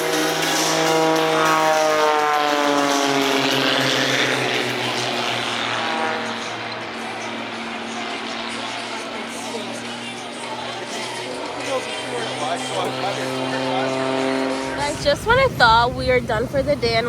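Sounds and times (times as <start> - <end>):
propeller airplane flying past: 0.0 - 17.0.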